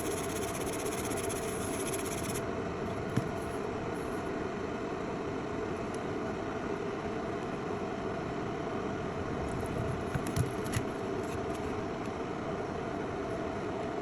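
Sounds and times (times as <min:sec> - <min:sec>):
fan whirring: 0:00.0 - 0:14.0.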